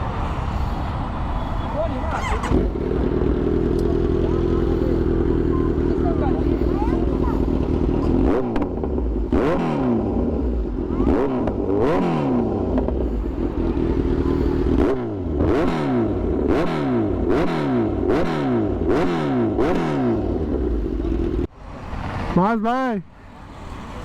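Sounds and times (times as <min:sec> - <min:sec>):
motorcycle engine revving: 0:01.8 - 0:22.4.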